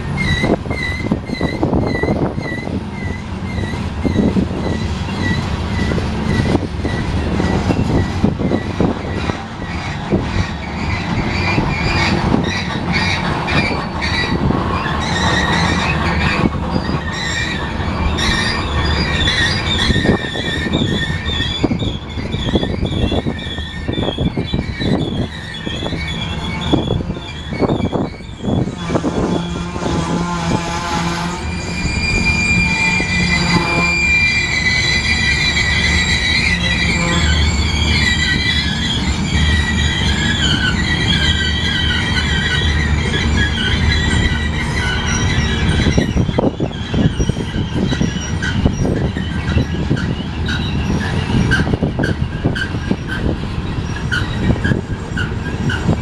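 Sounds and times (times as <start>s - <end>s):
train rumbling: 0.0s - 56.0s
train wheels squealing: 0.0s - 56.0s
wheels clacking over rail joints: 0.0s - 56.0s.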